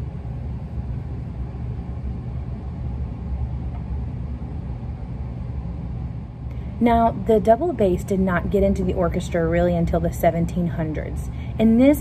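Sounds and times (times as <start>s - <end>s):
low rumble with faint hiss: 0.0s - 12.0s.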